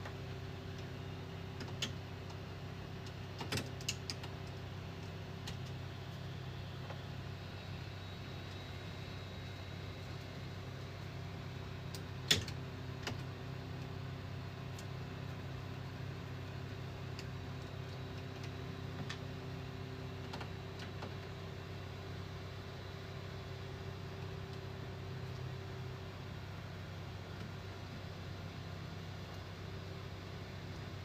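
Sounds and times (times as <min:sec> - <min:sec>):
electrical fan hum: 0:00.0 - 0:31.0.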